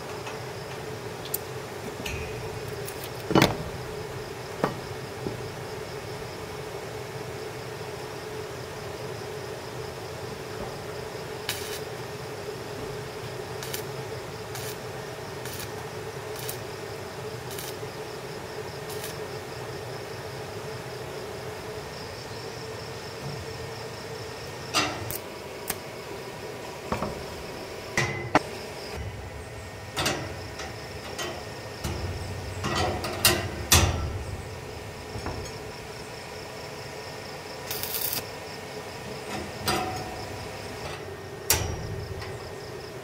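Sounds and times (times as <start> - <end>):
insects chirring: 0.0 - 43.0
steady background hum: 0.0 - 43.0.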